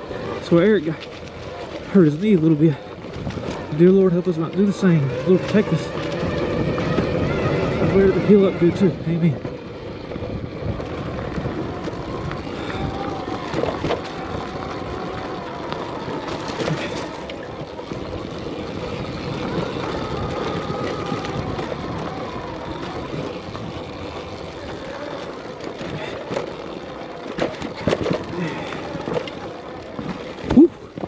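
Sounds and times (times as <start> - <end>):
tyres rumbling on dirt and rock: 0.0 - 31.0
electric motor whine: 2.8 - 31.0.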